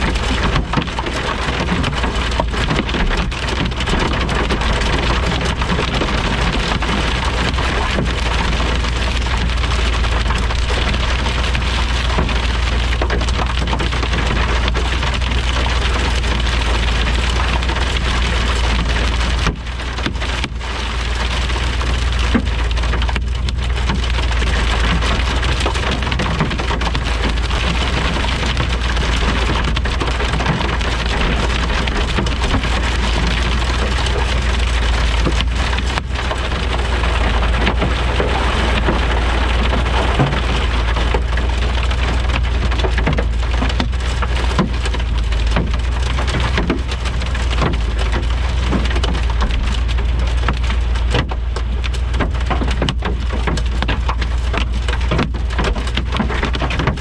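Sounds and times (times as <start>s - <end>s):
heavy rain pouring: 0.0s - 57.0s
low rumble: 0.0s - 57.0s.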